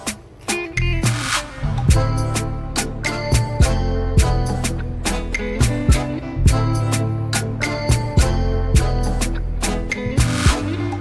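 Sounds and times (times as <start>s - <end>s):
background music with drum beat: 0.0s - 11.0s
steady bass line: 0.8s - 11.0s.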